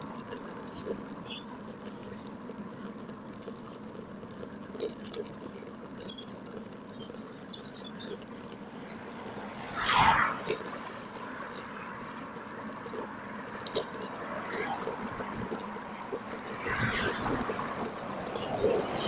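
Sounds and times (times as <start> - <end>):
road and wind noise from bicycle: 0.0 - 19.0.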